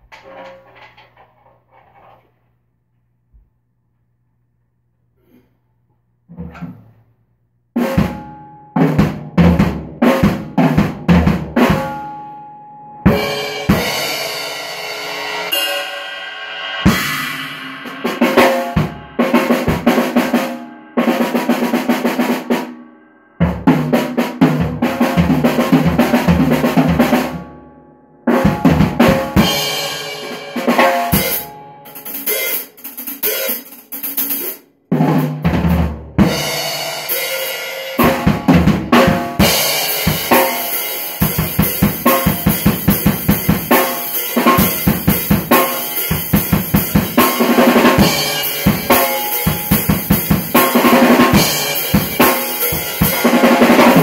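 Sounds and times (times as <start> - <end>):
drum kit playing: 7.8 - 12.2, 13.1 - 27.6, 28.3 - 54.0.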